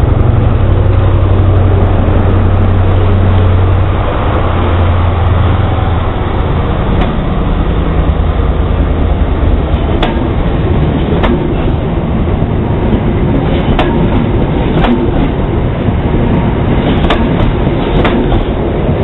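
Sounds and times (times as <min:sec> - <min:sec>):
diesel train engine hum: 0:00.0 - 0:19.0
train coaches rolling by: 0:00.0 - 0:19.0.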